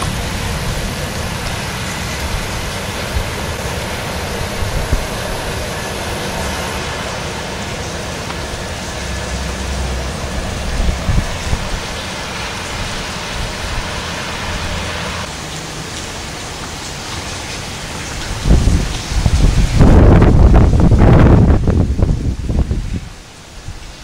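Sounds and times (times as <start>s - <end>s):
low thunder rumble: 0.0s - 15.3s, 17.9s - 23.1s
heavy rain falling: 0.0s - 24.0s.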